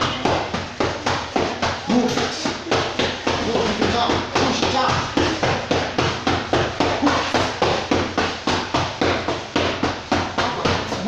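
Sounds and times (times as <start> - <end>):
boxing gloves hitting focus mitts: 0.0 - 11.0.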